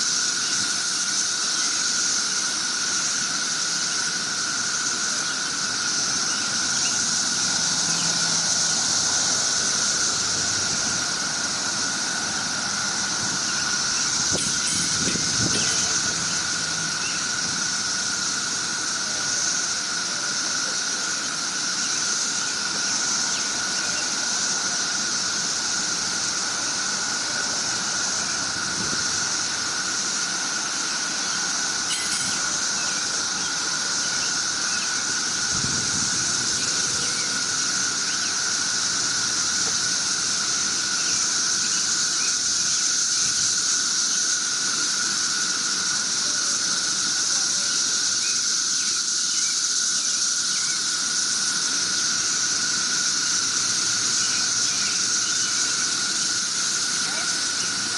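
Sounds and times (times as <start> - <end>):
cicadas droning: 0.0 - 57.9.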